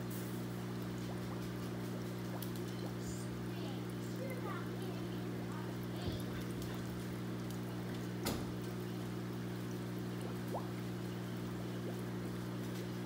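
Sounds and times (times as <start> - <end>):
water splashing into tank: 0.0 - 13.0.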